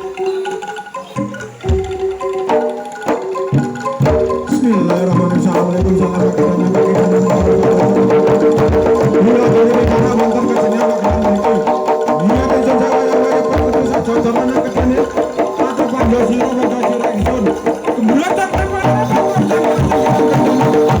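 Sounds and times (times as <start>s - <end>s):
hand drums beating: 0.0s - 21.0s
held melodic tones: 0.0s - 21.0s.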